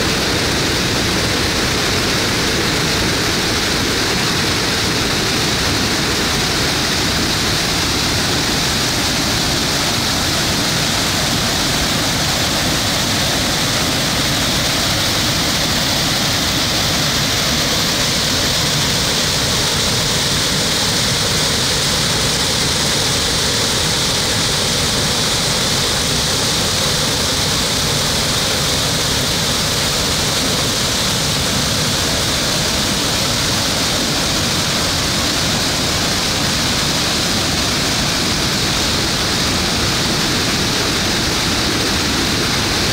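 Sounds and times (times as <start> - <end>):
waterfall pouring into pool: 0.0 - 42.9.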